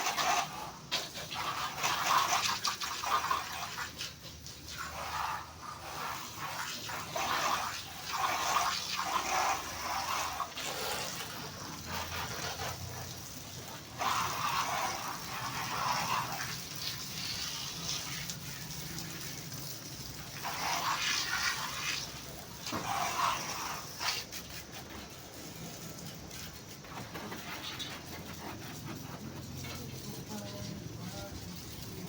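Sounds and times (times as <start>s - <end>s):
water spraying on truck: 0.0s - 32.0s.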